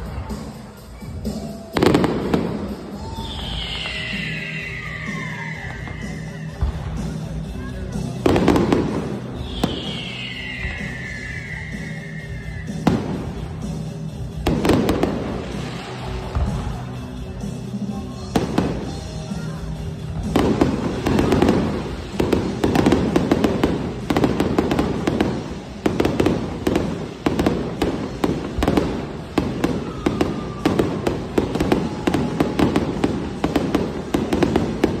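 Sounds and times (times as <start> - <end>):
fireworks cracks and bangs: 0.0 - 35.0.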